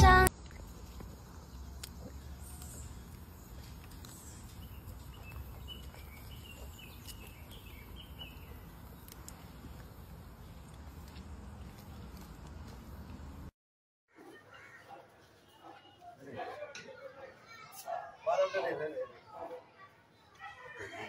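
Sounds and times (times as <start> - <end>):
faint outdoor background noise: 0.0 - 13.5, 14.1 - 21.0.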